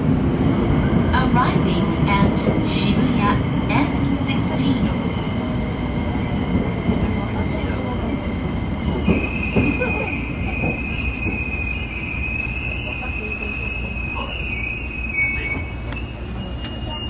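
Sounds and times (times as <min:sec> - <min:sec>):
subway car running rumble: 0:00.0 - 0:17.0.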